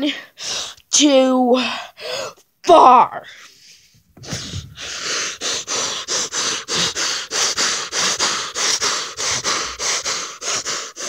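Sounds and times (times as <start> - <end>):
person breathing hard in huffs: 0.0 - 0.9, 1.6 - 2.4, 3.3 - 11.0.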